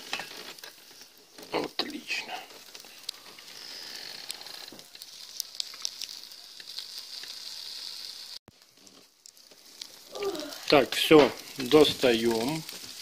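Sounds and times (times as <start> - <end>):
charcoal crackling pops: 0.0 - 13.0
meat sizzling over charcoal: 0.0 - 13.0.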